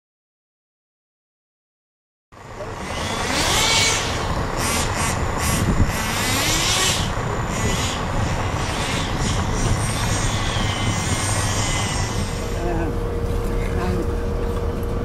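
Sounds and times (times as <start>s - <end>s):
bus engine humming: 2.4s - 15.0s.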